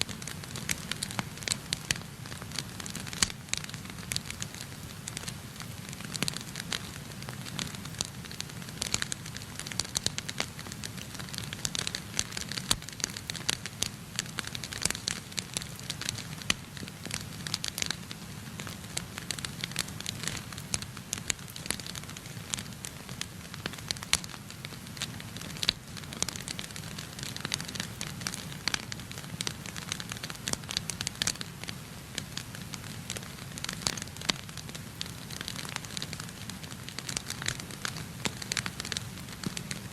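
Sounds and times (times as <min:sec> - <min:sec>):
fire crackling and popping: 0:00.0 - 0:39.9
low rumble of flames: 0:00.1 - 0:39.9.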